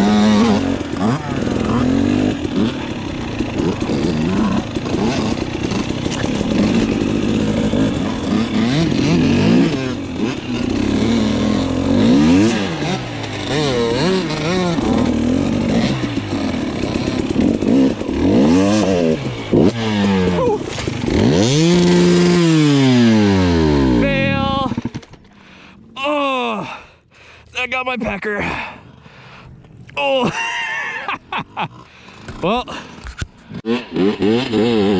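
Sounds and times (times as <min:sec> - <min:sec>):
dirt bike engine revving: 0:00.0 - 0:26.1, 0:31.5 - 0:34.9.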